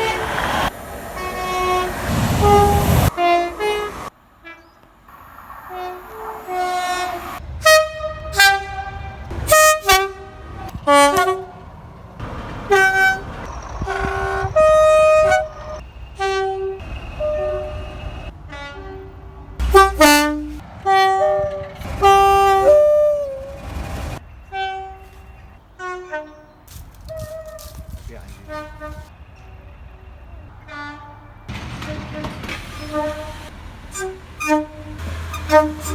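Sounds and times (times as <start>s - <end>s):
two-tone train horn blasts: 0.0s - 4.9s, 5.5s - 11.7s, 12.6s - 35.9s.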